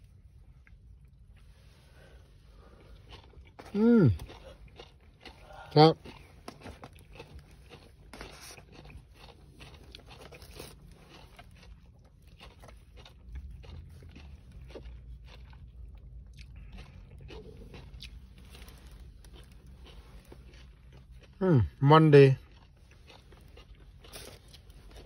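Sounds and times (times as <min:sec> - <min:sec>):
chewing crunchy fried food: 0:00.0 - 0:25.0
low steady hum: 0:00.0 - 0:25.0.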